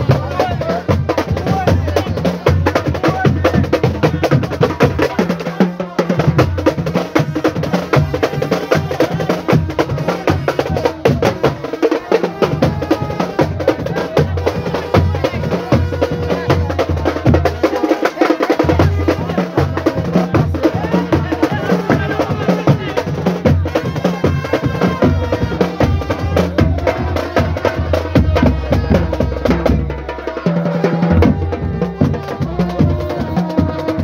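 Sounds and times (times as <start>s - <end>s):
marching drum band: 0.0s - 34.0s.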